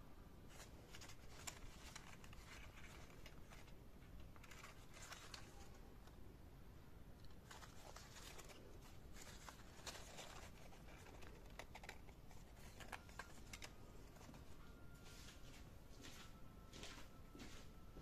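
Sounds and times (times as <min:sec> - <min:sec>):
low room hiss: 0:00.0 - 0:18.0
folded paper rustling: 0:00.5 - 0:06.2, 0:07.2 - 0:17.2.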